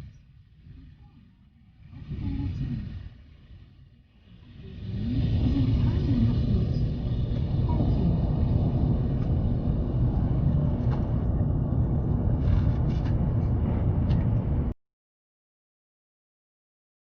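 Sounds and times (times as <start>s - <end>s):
train rumbling: 0.0s - 14.8s.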